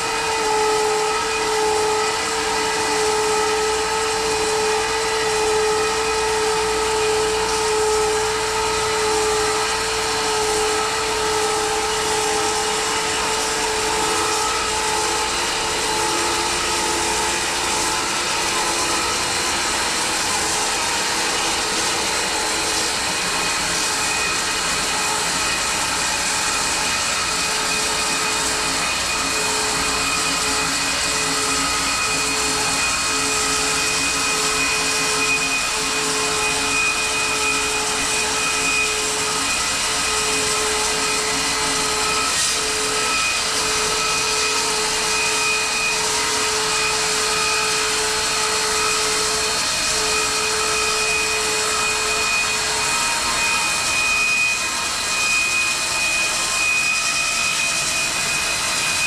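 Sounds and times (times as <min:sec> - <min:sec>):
bandsaw whining through log: 0:00.0 - 0:59.0.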